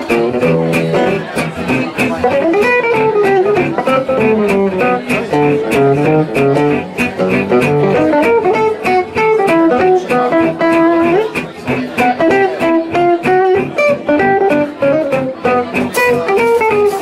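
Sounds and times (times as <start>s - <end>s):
acoustic guitar lead melody: 0.0s - 17.0s
acoustic guitar strummed chords: 0.0s - 17.0s.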